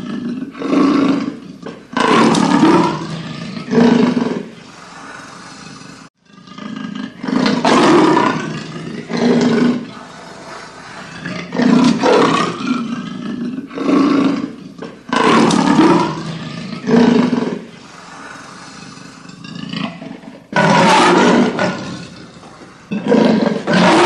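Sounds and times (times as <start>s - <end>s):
leopard roaring: 0.0s - 4.6s, 5.2s - 24.0s.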